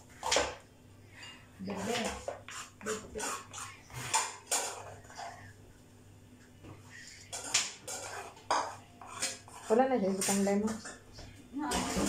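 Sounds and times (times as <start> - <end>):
dishes and utensils clattering: 0.0 - 5.5, 7.2 - 12.0
faint steady hum: 0.0 - 10.1.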